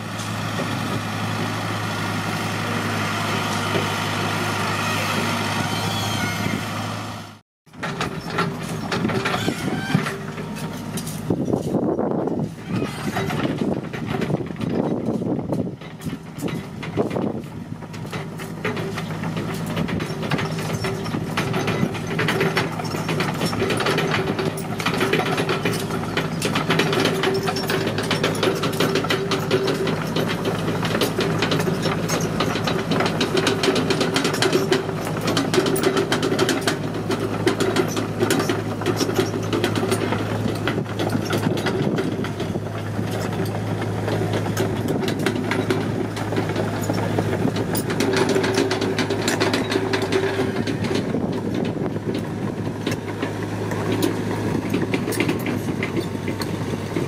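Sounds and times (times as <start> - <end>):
excavator diesel engine running: 0.0 - 57.0
rapid mechanical clatter: 7.7 - 57.0.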